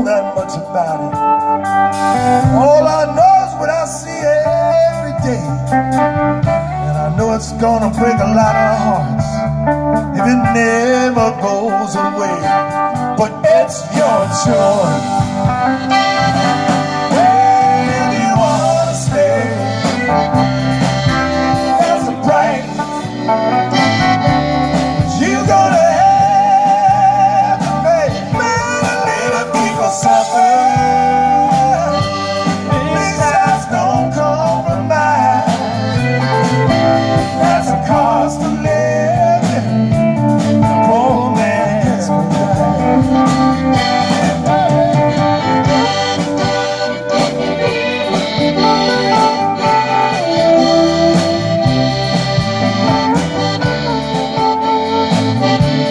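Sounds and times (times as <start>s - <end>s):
drum kit: 0.0s - 55.9s
electric guitar: 0.0s - 55.9s
piano accordion: 1.4s - 7.1s, 10.8s - 55.9s.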